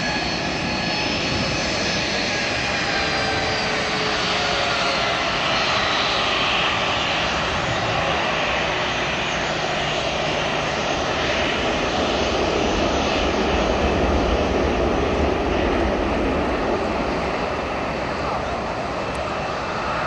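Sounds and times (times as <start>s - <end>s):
jet engines at taxi power: 0.0s - 20.0s.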